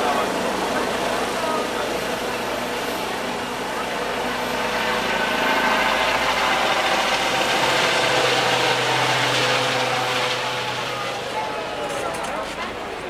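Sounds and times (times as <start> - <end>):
helicopter turbine and rotor noise: 0.0 - 13.0.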